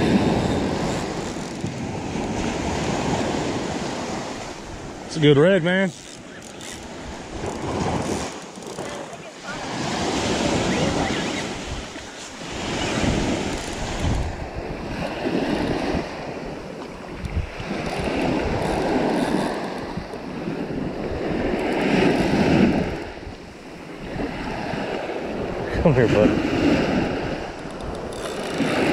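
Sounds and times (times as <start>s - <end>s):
surf washing up sand: 0.0s - 27.6s
wind buffeting microphone: 0.0s - 28.9s.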